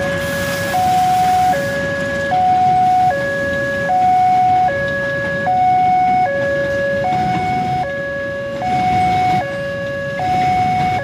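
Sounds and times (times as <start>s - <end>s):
level crossing two-tone alarm: 0.0s - 11.0s
passing train noise: 0.0s - 11.0s.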